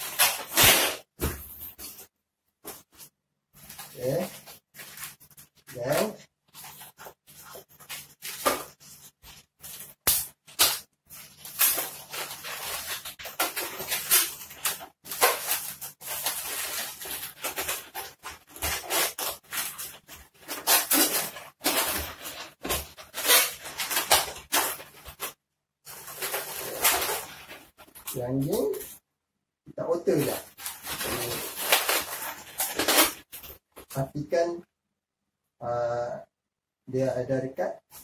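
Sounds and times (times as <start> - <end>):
balloons squeaking and rubbing: 0.0 - 29.0, 30.1 - 34.1.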